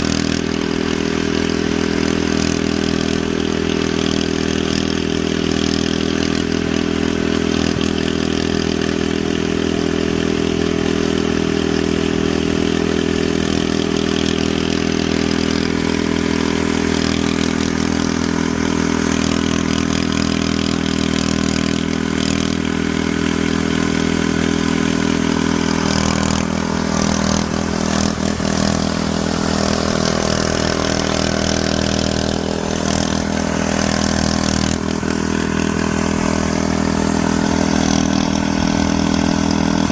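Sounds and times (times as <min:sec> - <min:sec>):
steady mechanical drone: 0:00.0 - 0:39.9.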